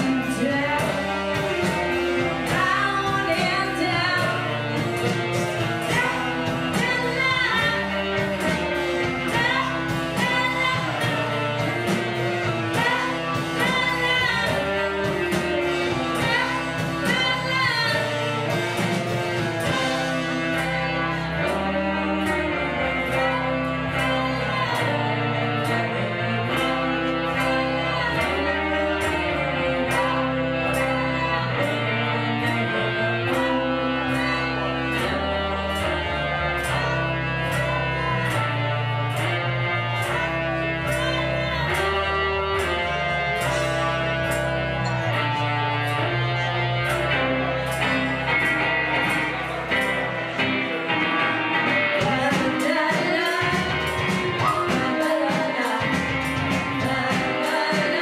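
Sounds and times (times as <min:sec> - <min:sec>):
person singing: 0:00.0 - 0:58.0
rock band playing: 0:00.0 - 0:58.0.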